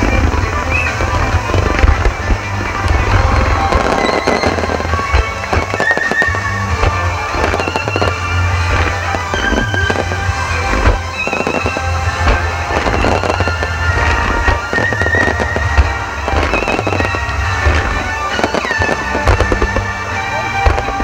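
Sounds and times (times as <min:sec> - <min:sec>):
fireworks bangs and crackling: 0:00.0 - 0:21.0
music: 0:00.0 - 0:21.0.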